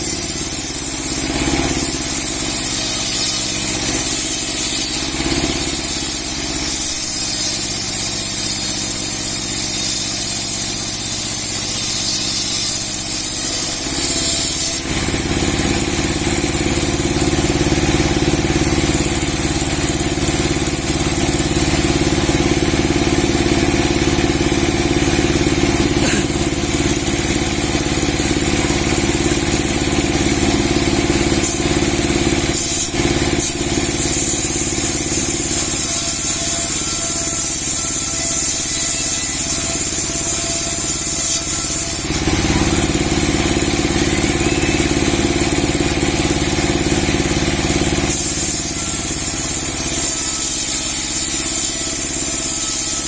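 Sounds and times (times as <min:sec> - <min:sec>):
sawmill blade sawing log: 0:00.0 - 0:53.0.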